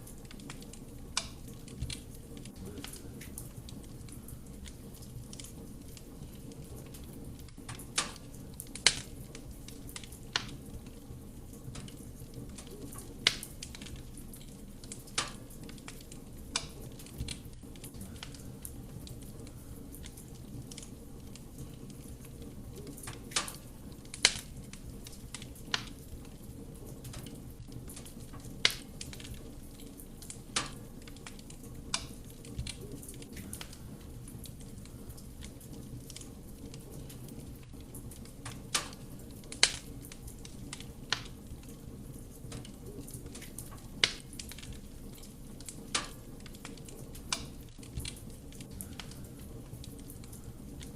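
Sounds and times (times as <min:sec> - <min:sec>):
fire rumbling: 0:00.0 - 0:50.9
logs crackling and popping: 0:00.0 - 0:50.9.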